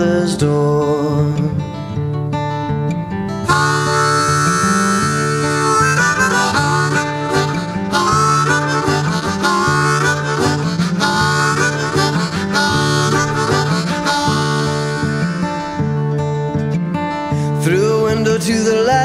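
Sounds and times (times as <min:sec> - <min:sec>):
guitar: 0:00.0 - 0:19.0
harmonica: 0:03.3 - 0:19.0.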